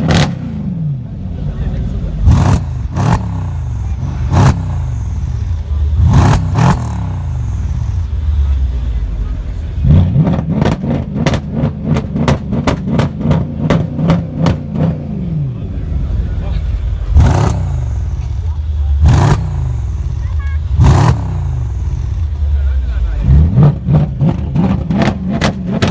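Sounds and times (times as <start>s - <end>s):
car engine revving with cracks: 0.0s - 25.9s.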